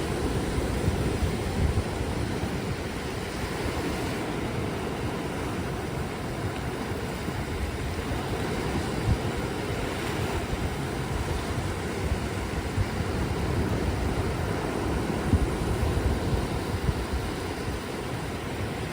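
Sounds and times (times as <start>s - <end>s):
surf breaking on a beach: 0.0s - 18.9s.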